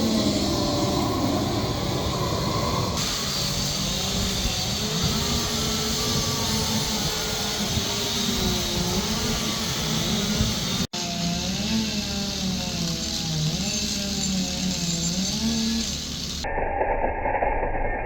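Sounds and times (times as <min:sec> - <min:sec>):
chainsaws carving wood: 0:00.0 - 0:16.5.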